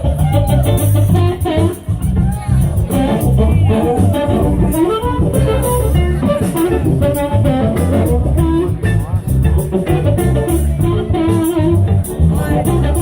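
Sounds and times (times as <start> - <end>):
blues band playing: 0.0 - 13.0
reed instrument melody: 0.0 - 13.0.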